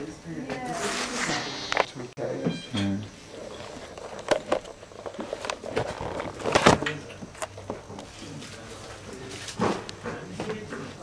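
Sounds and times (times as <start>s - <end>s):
low room noise: 0.0s - 11.0s.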